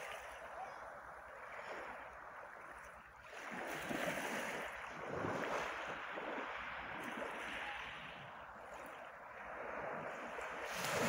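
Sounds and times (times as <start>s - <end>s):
waves washing over pebbles: 0.0s - 0.4s, 1.2s - 11.0s.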